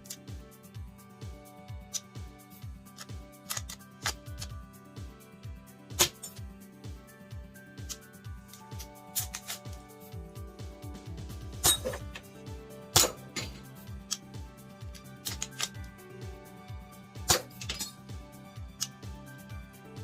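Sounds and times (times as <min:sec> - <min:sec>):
electronic music with kick drum: 0:00.0 - 0:20.0.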